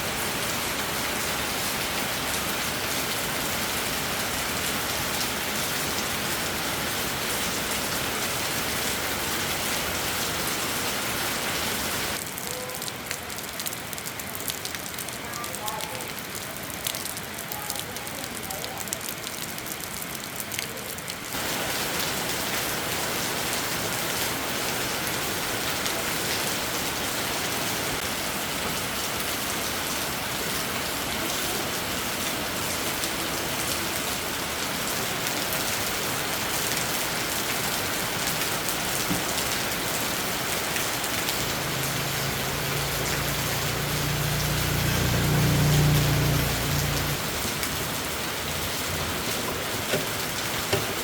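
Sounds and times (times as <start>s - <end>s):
heavy rain: 0.0s - 51.0s.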